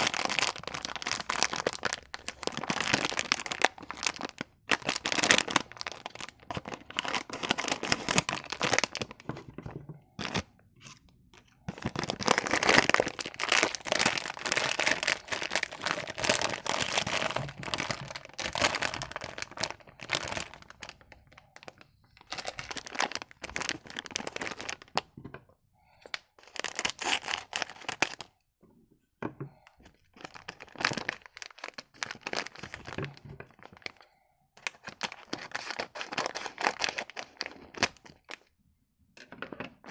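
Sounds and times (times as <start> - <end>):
candy wrappers crinkling: 0.0 - 9.6, 10.2 - 25.1, 26.1 - 28.3, 30.1 - 34.0, 34.6 - 38.5.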